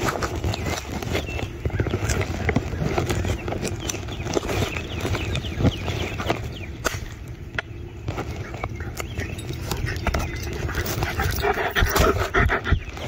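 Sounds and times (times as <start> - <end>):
footsteps on grass and dirt: 0.0 - 13.0.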